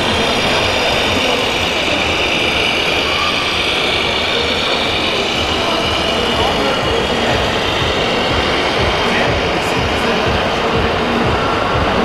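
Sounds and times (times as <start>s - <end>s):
simulated diesel truck engine idling: 0.0s - 12.0s.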